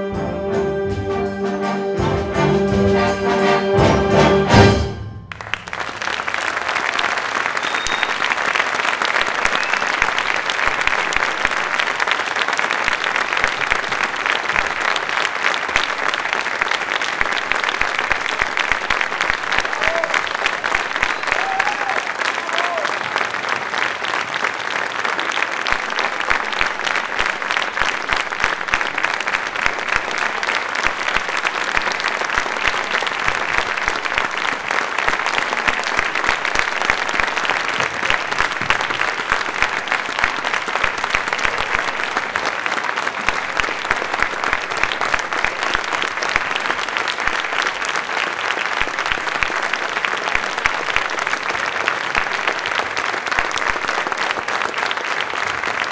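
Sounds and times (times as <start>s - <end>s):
audience applauding: 4.6s - 55.9s.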